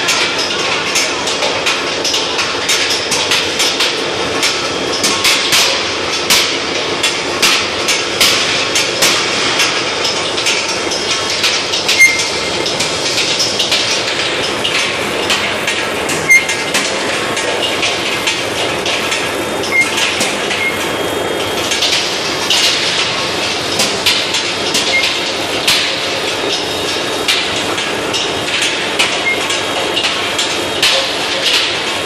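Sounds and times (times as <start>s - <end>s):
mill machinery din: 0.0s - 32.0s.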